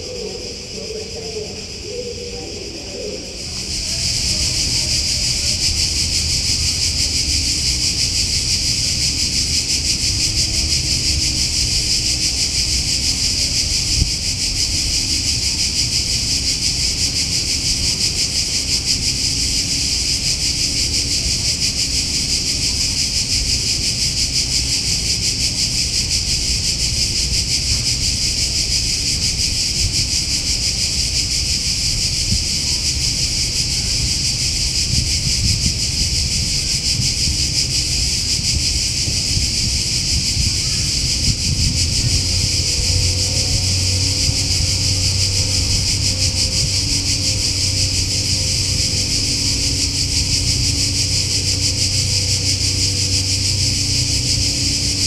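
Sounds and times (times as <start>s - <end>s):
cicadas singing: 0.0s - 55.0s.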